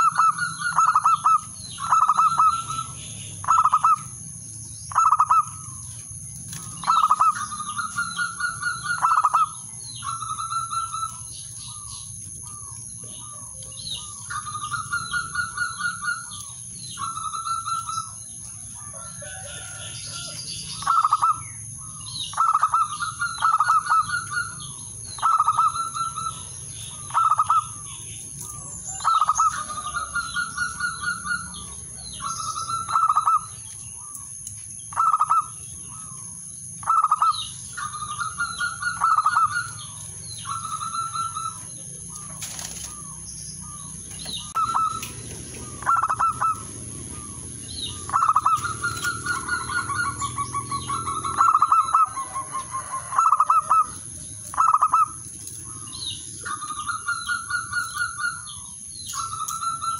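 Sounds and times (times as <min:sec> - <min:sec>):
dove cooing: 0:00.0 - 0:04.2, 0:04.9 - 0:34.2, 0:34.9 - 0:36.2, 0:36.8 - 0:59.9.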